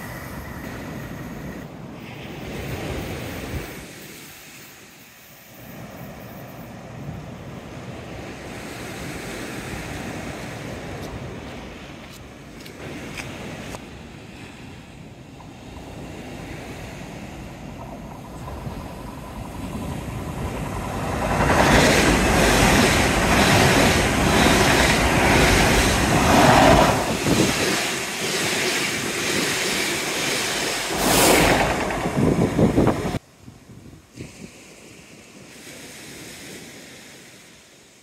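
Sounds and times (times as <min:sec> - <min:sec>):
passenger train passing: 0:00.0 - 0:33.2
wind: 0:00.0 - 0:38.0
waves breaking on shore: 0:01.9 - 0:33.2, 0:34.1 - 0:38.0.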